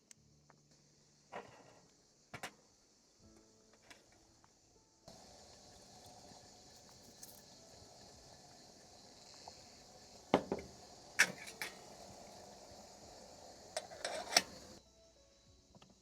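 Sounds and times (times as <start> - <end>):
steady high hiss: 0.0 - 15.6.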